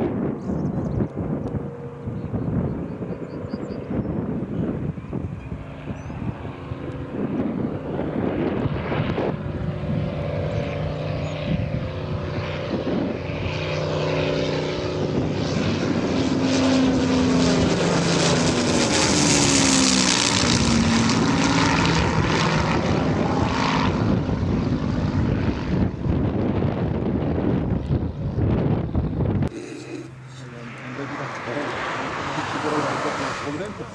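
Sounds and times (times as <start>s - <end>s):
propeller aircraft passing overhead: 0.0s - 33.9s.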